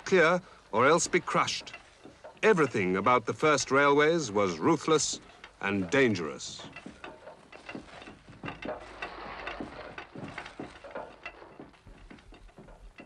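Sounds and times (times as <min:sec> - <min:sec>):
wooden pulley clicks and creaks: 0:00.0 - 0:13.0.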